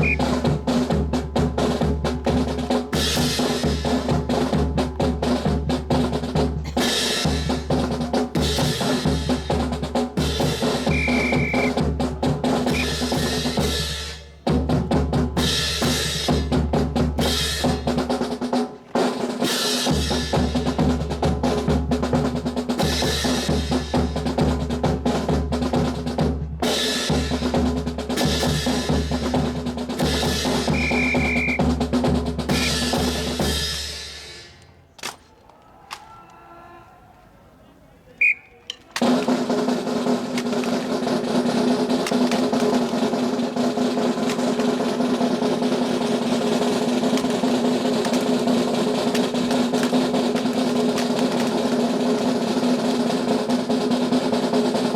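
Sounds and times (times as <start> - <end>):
marching snare and bass drums: 0.0 - 34.9, 38.2 - 54.9.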